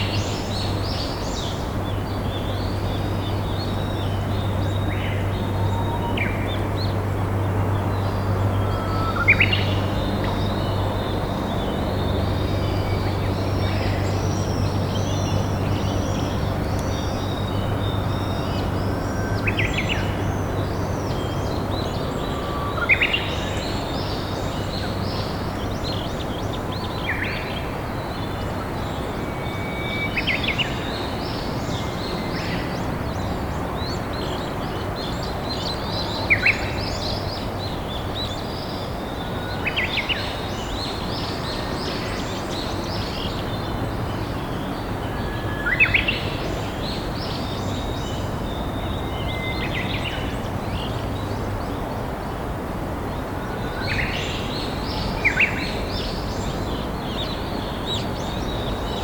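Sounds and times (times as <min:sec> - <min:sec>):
birds singing: 0:00.0 - 0:59.0.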